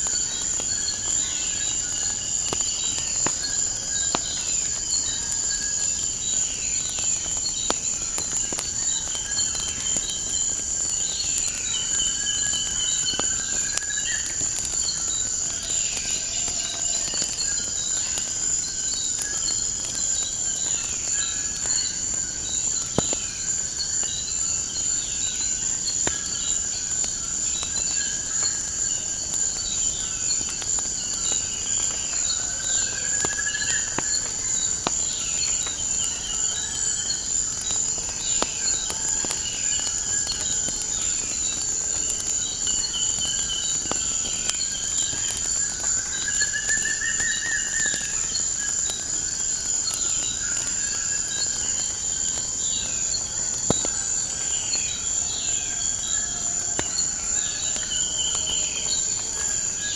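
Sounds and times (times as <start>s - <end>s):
crickets chirping: 0.0s - 59.9s
wood fire crackling: 0.0s - 59.9s.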